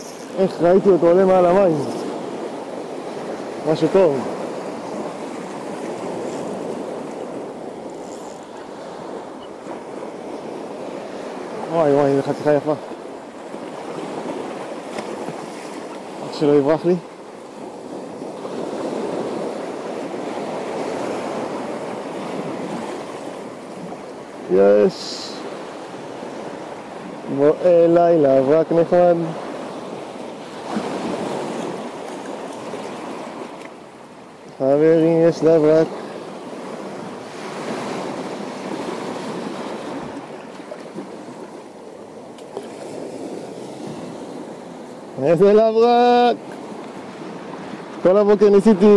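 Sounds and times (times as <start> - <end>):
waves washing on shore: 0.0 - 48.9.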